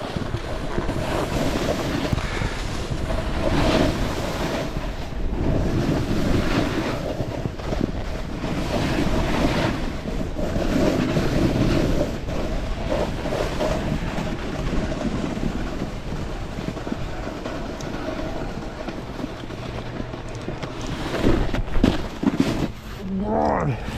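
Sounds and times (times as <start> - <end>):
snowboard sliding over wet snow: 0.0 - 23.9
wind rushing over microphone: 0.0 - 23.9.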